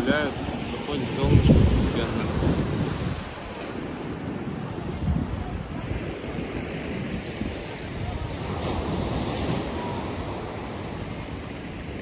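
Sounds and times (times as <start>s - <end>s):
surf breaking on beach: 0.0s - 12.0s
wind rumble on microphone: 0.0s - 12.0s.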